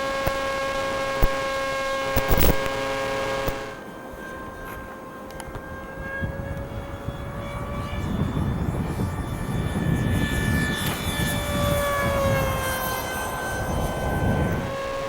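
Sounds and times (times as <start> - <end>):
low wind rumble: 0.0 - 15.0
model plane motor whining: 0.0 - 15.0.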